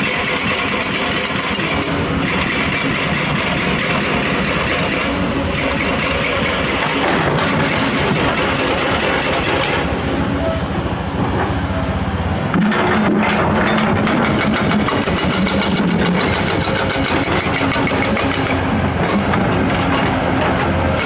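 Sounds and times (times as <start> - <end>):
hydraulic rock breaker hammering: 0.0 - 9.9, 12.5 - 21.0
excavator engines running: 0.0 - 21.0.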